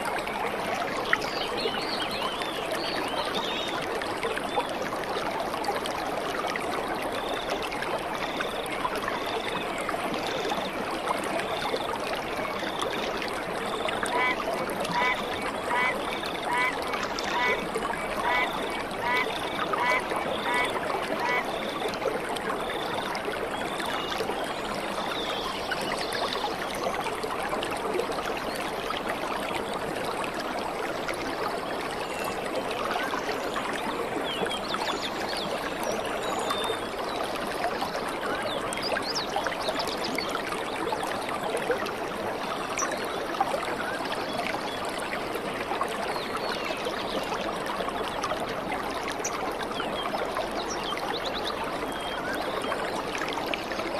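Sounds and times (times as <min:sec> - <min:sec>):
stream rushing over stones: 0:00.0 - 0:53.9.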